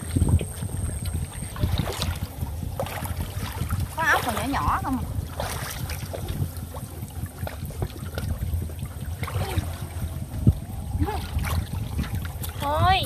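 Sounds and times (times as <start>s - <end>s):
muddy water sloshing and trickling: 0.0s - 13.0s
small splashes: 0.0s - 13.0s.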